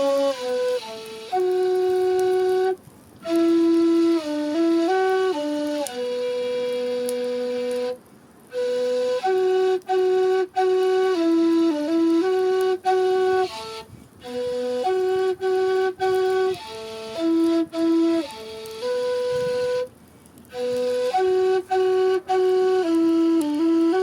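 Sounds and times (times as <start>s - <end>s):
flute-like melody of held notes: 0.0s - 24.0s.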